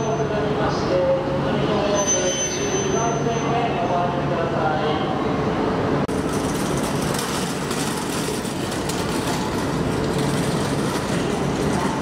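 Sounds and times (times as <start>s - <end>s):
trains rumbling and humming: 0.0s - 12.0s.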